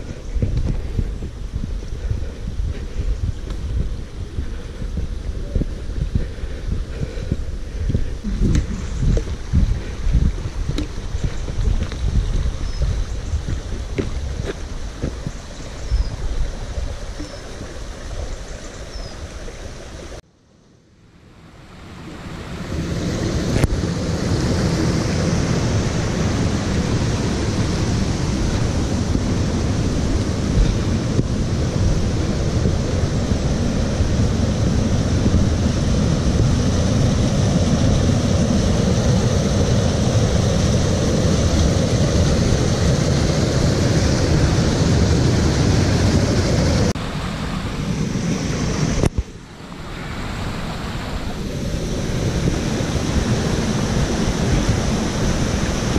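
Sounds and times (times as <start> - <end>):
wind noise on microphone: 0.0 - 20.2, 22.0 - 55.9
stream rushing over rocks: 8.1 - 20.2, 21.6 - 55.9.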